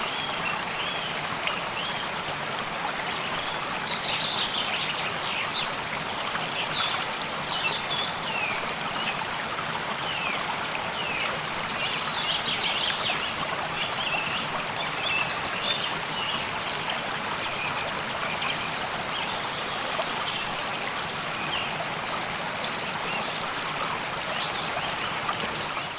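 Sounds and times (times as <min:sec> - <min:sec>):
stream trickling: 0:00.0 - 0:25.9.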